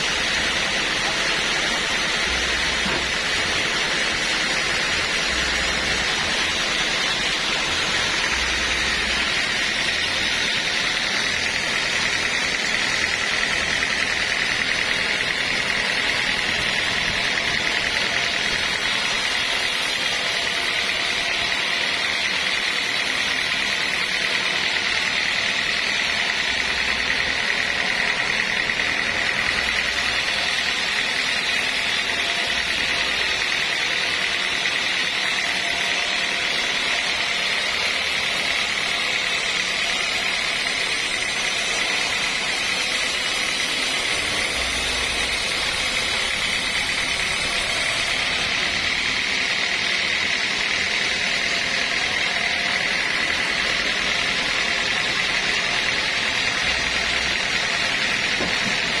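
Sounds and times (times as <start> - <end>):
high even whine: 0.0 - 59.0
sawmill machinery running: 0.0 - 59.0.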